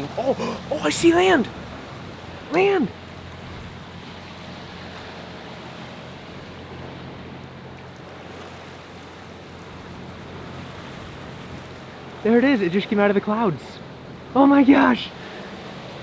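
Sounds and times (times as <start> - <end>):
water rushing past hull: 0.0 - 13.2
boat engine humming: 0.0 - 16.0
wind: 0.0 - 16.0.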